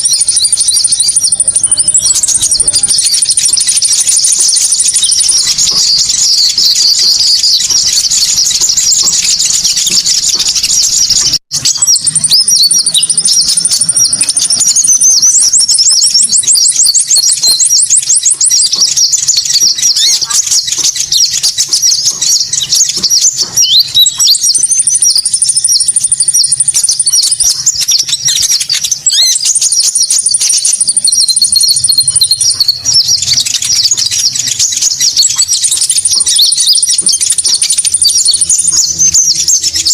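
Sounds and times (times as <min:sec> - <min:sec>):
high whistled bird notes: 0:00.0 - 0:39.9
small birds chirping and trilling: 0:00.0 - 0:39.9.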